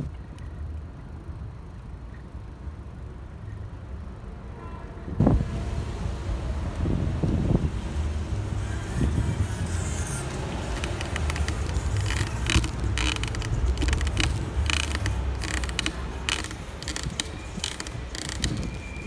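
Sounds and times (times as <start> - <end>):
bicycle rattling and clicking: 0.0 - 4.3, 6.6 - 19.0
road and wind rumble: 0.0 - 19.0.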